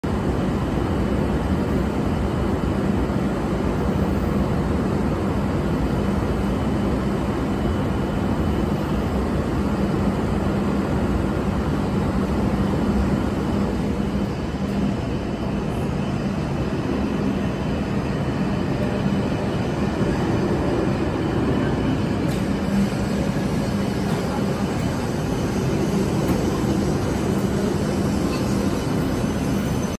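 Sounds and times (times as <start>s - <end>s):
train rumbling at low speed: 0.0s - 30.0s.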